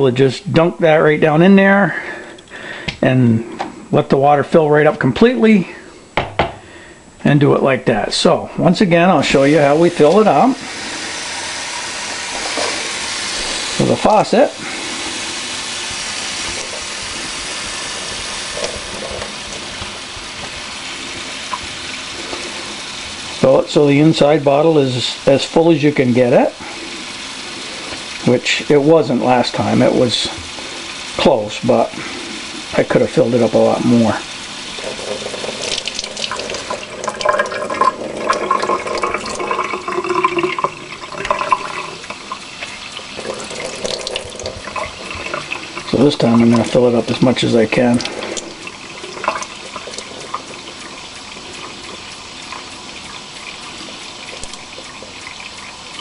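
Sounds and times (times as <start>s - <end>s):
water tap running: 7.6s - 56.0s.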